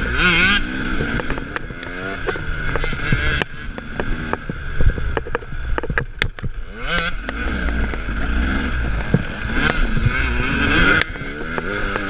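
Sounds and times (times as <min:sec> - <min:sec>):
dirt bike engine revving: 0:00.0 - 0:12.0
knocks and rattles over bumps: 0:00.0 - 0:12.0.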